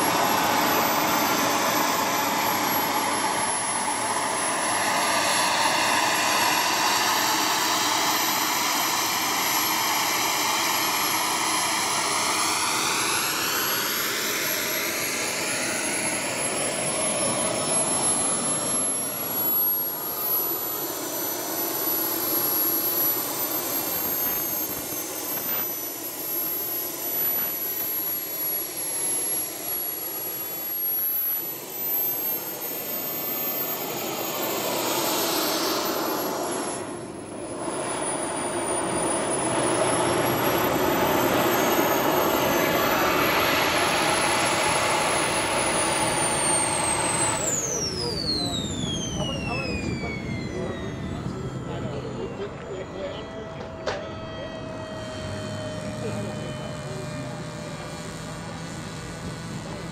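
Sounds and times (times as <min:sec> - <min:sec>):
steady engine drone: 0:00.0 - 0:59.9
thin high whine: 0:00.0 - 0:59.9.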